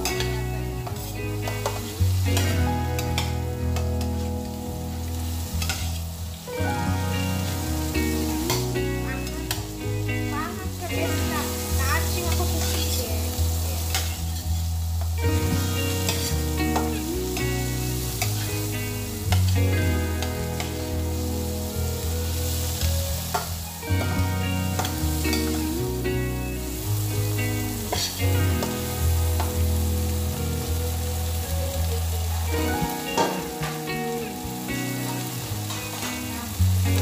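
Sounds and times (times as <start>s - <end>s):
background music: 0.0s - 37.0s
shrimp sizzling in a pan: 0.0s - 37.0s.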